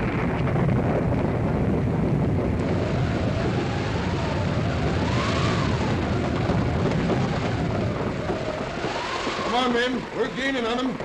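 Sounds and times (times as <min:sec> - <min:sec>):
horses galloping: 0:00.0 - 0:11.0
wind howling: 0:00.0 - 0:11.0.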